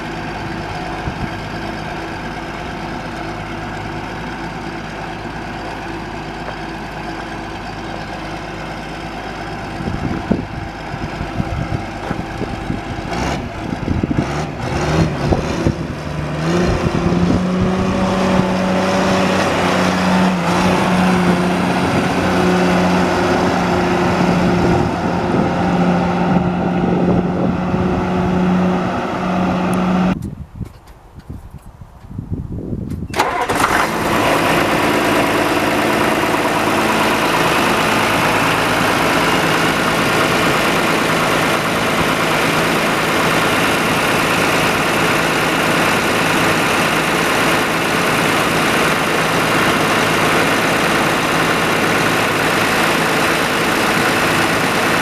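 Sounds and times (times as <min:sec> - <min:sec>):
diesel engine idling and revving: 0:00.0 - 0:30.4, 0:33.1 - 0:55.0.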